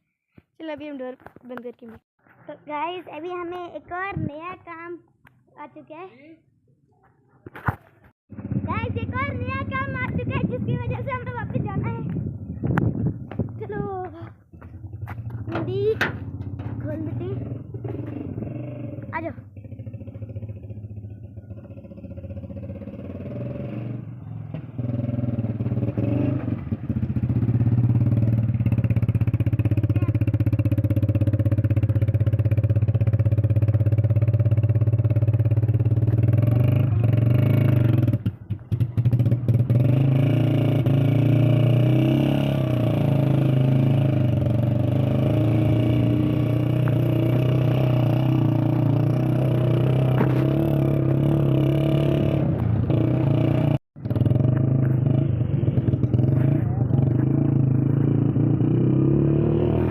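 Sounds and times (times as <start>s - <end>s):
motorcycle engine running: 8.3s - 59.9s.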